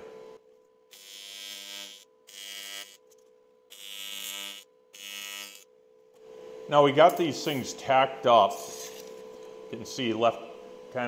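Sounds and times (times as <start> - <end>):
welding arc buzzing: 0.8 - 10.2.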